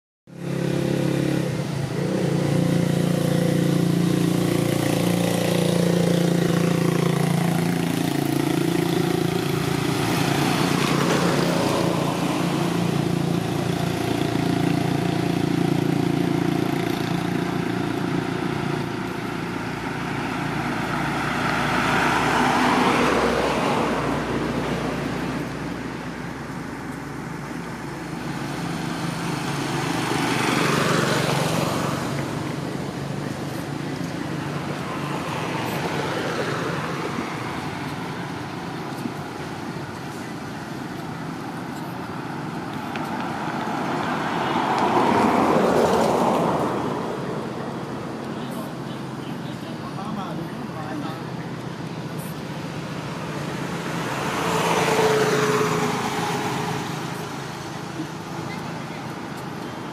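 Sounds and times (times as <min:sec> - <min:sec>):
vehicles passing: 0:00.3 - 0:59.9.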